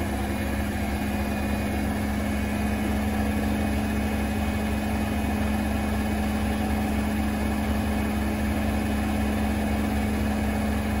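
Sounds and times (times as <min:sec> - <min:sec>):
washing machine running: 0:00.0 - 0:11.0.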